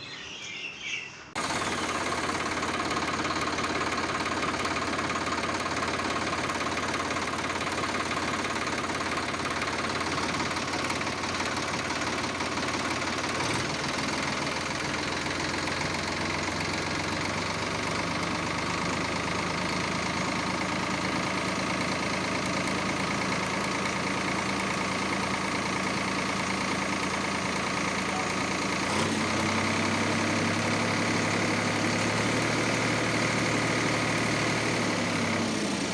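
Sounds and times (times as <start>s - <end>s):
toy motor humming whine: 1.4s - 35.5s.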